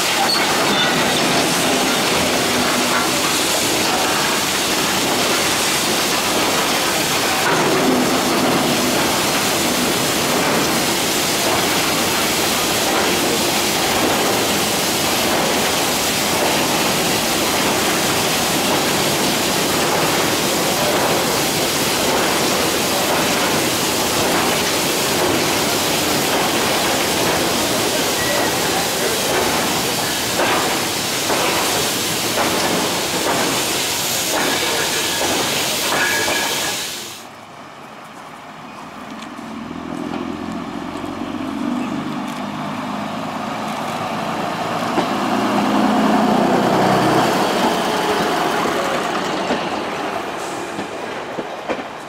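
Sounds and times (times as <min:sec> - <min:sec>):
steam train hissing: 0:00.0 - 0:37.4, 0:43.9 - 0:52.0.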